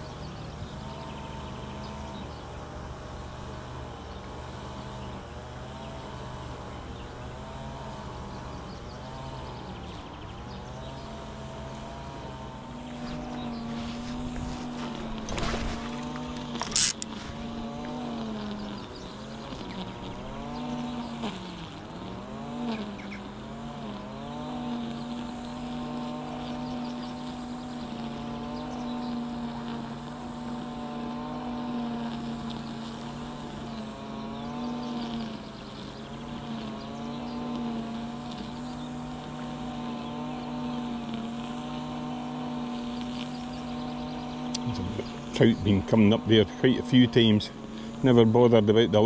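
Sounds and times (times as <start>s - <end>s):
motor engine running: 0.0s - 49.0s.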